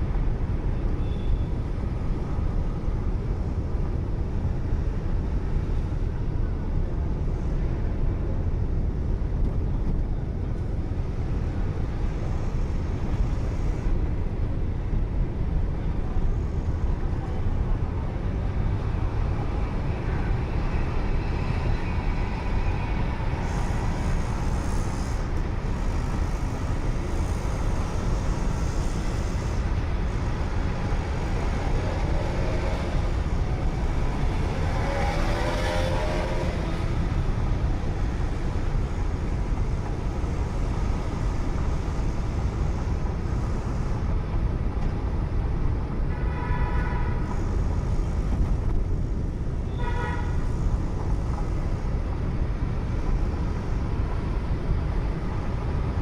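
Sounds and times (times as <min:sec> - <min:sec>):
car driving on highway: 0:00.0 - 0:56.0.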